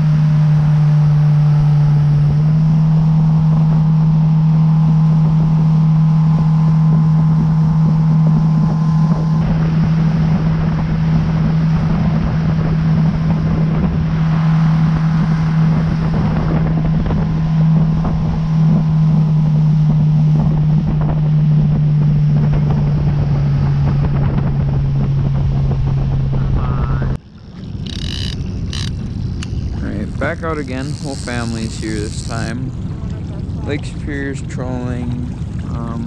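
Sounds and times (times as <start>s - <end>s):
outboard motor drone: 0.0s - 36.0s
wake water rushing: 0.0s - 36.0s
wind on microphone: 0.0s - 36.0s.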